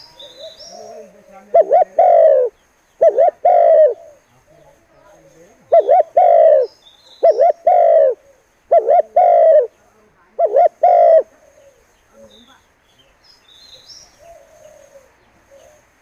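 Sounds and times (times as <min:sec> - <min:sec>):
dove cooing: 0:00.0 - 0:12.4, 0:14.1 - 0:16.0.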